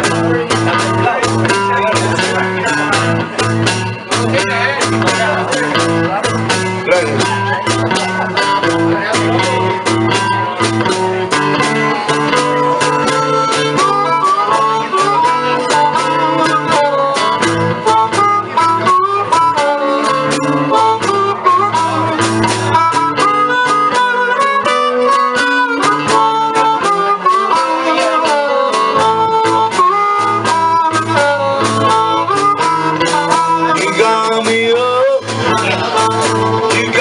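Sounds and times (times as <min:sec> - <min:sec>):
bass line: 0:00.0 - 0:37.0
guitar strumming: 0:00.0 - 0:37.0
harmonica solo with bent notes: 0:00.0 - 0:37.0.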